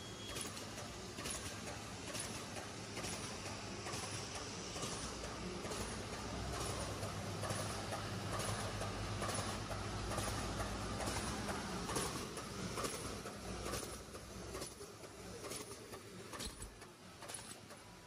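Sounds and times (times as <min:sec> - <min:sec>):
machine knocking: 0:00.3 - 0:17.9.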